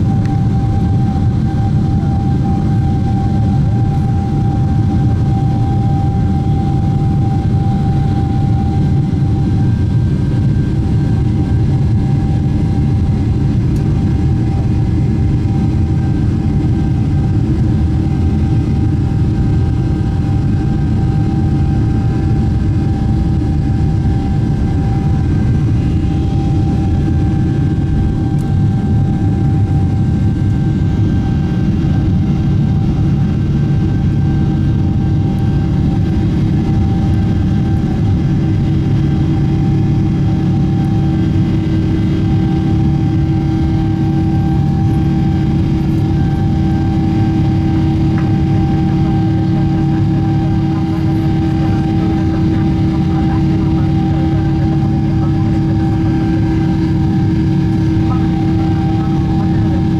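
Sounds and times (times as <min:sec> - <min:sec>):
jet engines rumbling at takeoff: 0:00.0 - 0:59.9
thin steady engine whine: 0:00.0 - 0:59.9.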